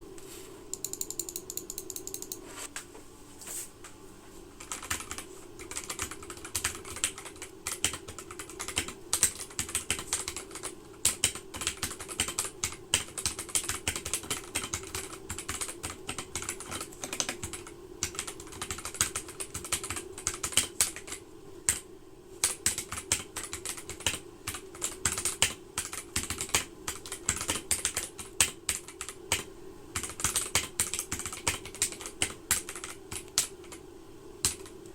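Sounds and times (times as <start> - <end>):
steady low hum: 0.0 - 34.9
mechanical keyboard typing: 0.8 - 2.4, 4.6 - 21.8, 22.4 - 33.8, 34.4 - 34.8.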